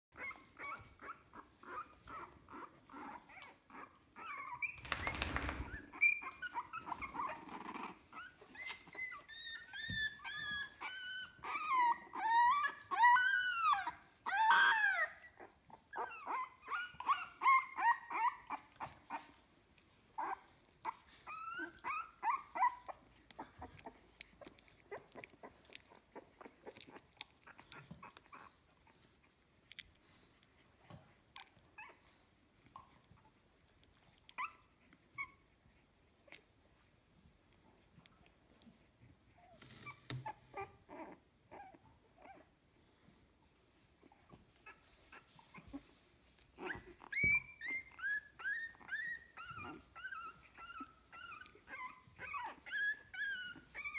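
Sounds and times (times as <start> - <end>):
puppies squeaking and whimpering: 0.1 - 36.8, 37.7 - 42.6, 43.5 - 53.9.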